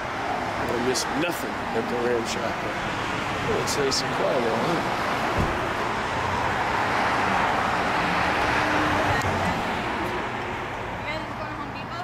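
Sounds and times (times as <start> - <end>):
vehicles driving past: 0.0 - 12.0.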